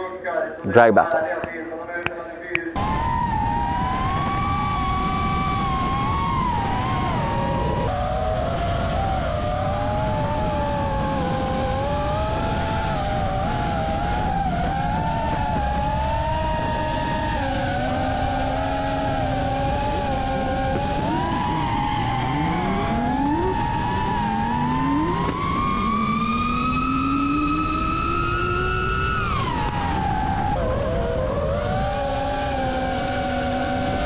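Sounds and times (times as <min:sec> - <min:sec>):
drag car engine accelerating: 0:02.8 - 0:34.0
racing drone propellers whining: 0:02.8 - 0:34.0.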